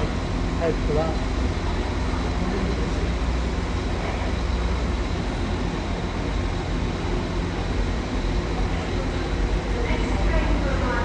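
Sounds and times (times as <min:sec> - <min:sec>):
diesel train engine idling: 0:00.0 - 0:11.0.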